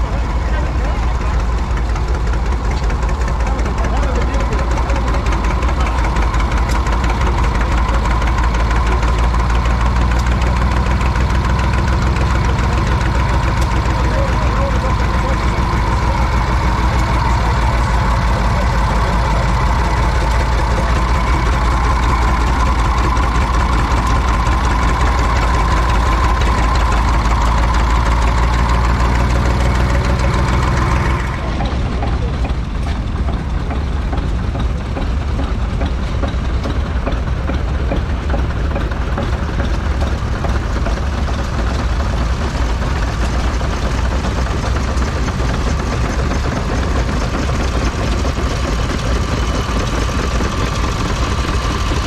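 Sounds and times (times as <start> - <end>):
rough engine running: 0.0 - 52.0
stationary engine running: 0.0 - 52.0.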